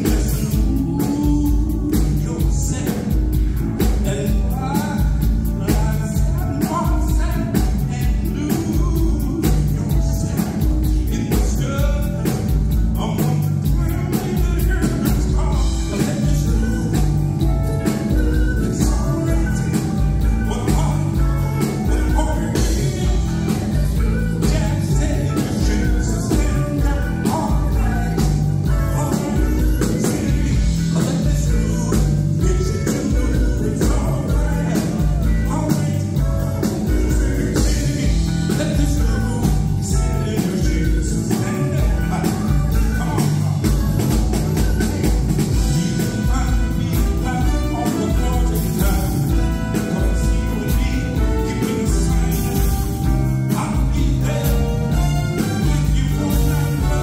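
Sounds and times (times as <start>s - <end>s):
live band playing: 0.0s - 57.0s
man singing: 0.0s - 57.0s.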